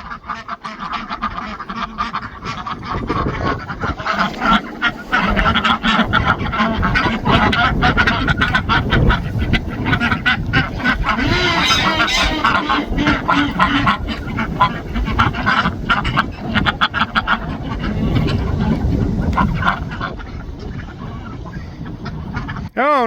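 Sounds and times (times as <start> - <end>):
ducks calling: 0.0 - 23.0.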